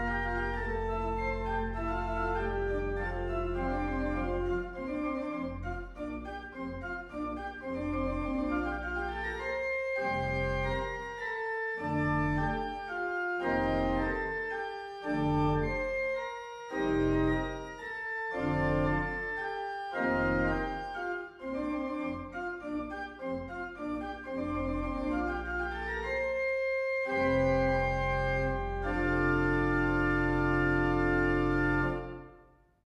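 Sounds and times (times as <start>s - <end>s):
church organ playing chords: 0.0s - 32.5s.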